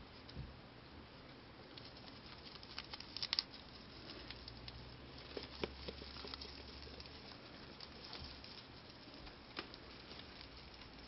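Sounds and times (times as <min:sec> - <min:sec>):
rabbit chewing a leaf: 0:01.6 - 0:11.0.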